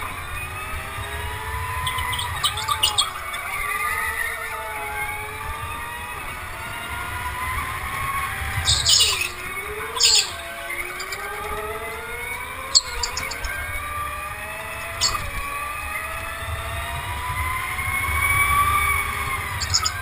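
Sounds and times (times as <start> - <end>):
go-kart motor whining: 0.0 - 20.0.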